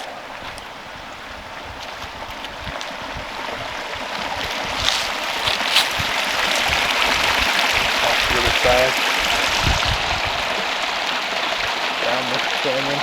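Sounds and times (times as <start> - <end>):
stream rushing and splashing: 0.0 - 13.0.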